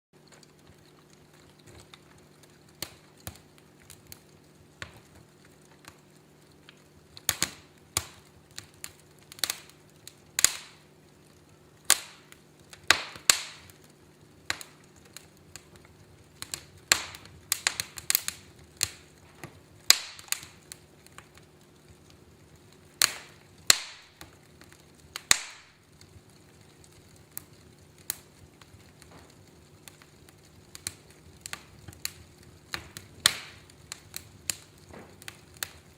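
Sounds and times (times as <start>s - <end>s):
wood fire crackling and popping: 0.2s - 35.9s.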